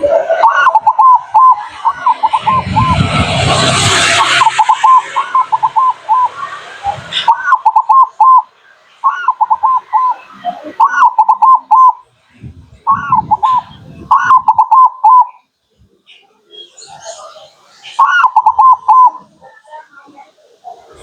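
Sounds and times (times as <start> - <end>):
dove cooing: 0.0 - 3.2, 4.0 - 12.0, 12.8 - 15.4, 18.0 - 21.0.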